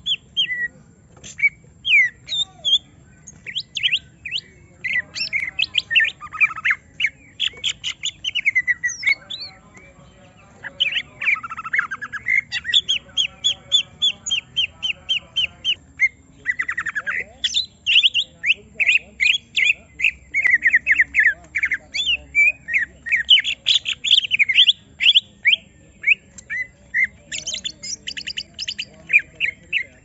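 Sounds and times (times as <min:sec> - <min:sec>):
bird chirping and squawking: 0:00.0 - 0:30.0.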